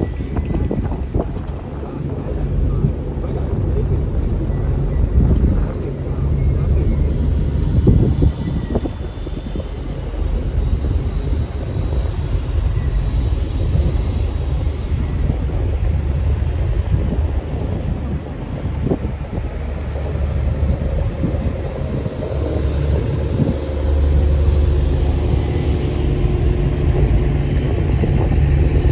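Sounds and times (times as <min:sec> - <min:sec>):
boat engine droning: 0:00.0 - 0:28.9
water noise: 0:00.0 - 0:28.9
wind: 0:00.0 - 0:28.9.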